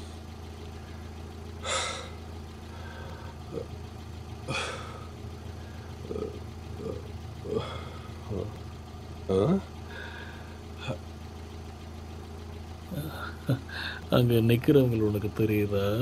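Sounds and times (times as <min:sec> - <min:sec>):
car cabin hum: 0:00.0 - 0:16.0.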